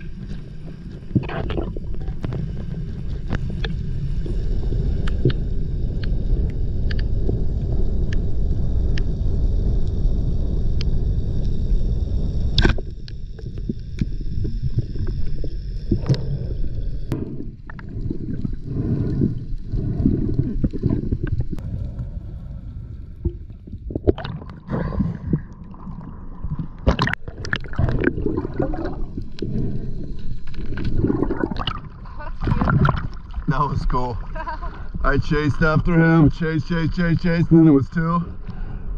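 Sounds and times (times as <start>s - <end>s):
water movement: 0.0s - 9.1s, 11.0s - 38.9s
low underwater rumble: 0.0s - 37.7s.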